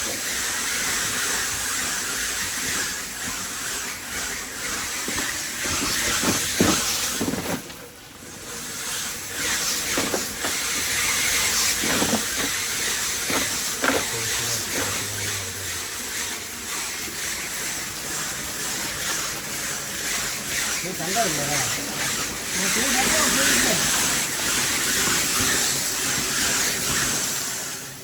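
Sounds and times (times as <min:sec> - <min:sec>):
crushed ice rushing hiss: 0:00.0 - 0:28.0.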